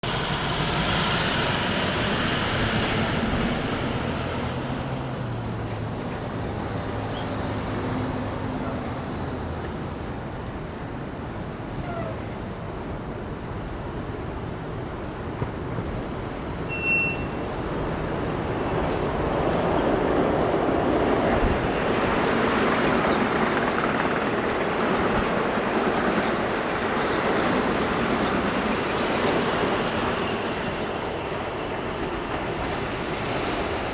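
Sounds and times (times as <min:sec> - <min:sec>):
road traffic rush: 0:00.0 - 0:33.9.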